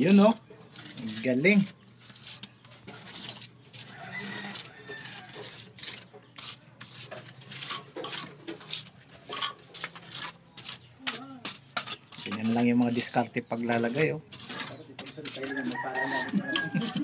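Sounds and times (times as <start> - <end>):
trowel scraping wet mortar: 0.0 - 17.0.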